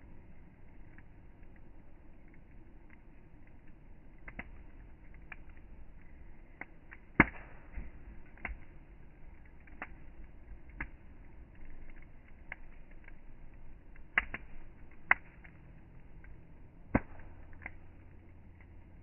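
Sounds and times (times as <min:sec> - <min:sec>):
campfire crackling and popping: 0:00.0 - 0:19.0
low steady rumble: 0:00.0 - 0:19.0.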